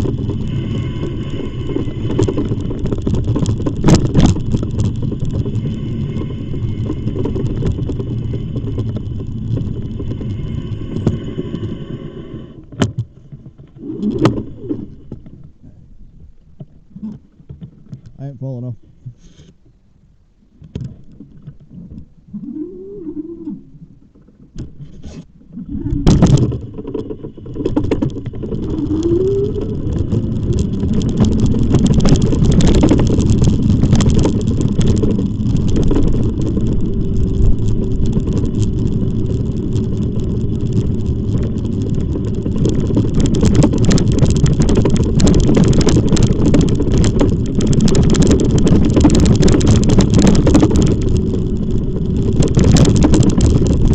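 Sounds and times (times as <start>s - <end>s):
e-bike riding rumble: 0.0s - 18.2s, 24.4s - 53.9s.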